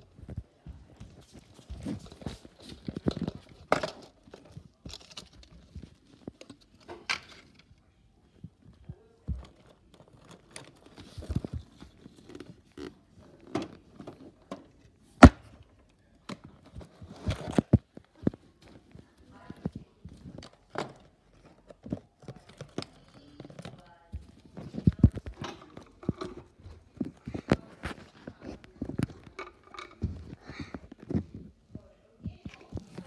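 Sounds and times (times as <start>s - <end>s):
camera and toys rustling: 0.0s - 15.3s, 16.4s - 33.0s.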